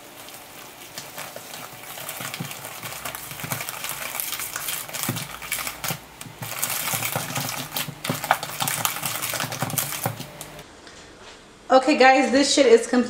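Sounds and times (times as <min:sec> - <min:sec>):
whisk scraping a metal bowl: 0:00.0 - 0:10.6.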